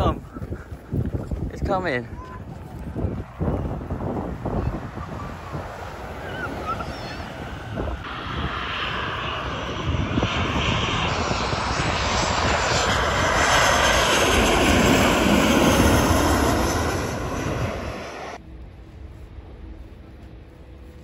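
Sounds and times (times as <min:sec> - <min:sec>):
jet airliner passing overhead: 0:00.0 - 0:21.0.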